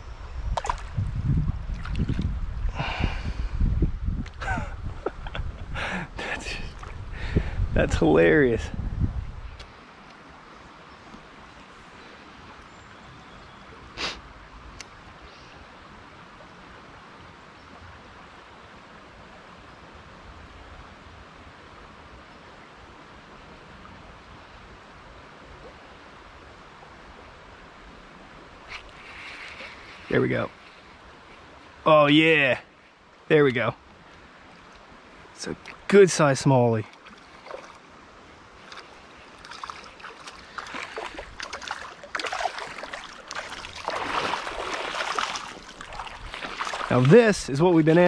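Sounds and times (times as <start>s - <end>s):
creek water running: 0.5s - 3.7s, 4.4s - 8.8s, 9.4s - 48.0s.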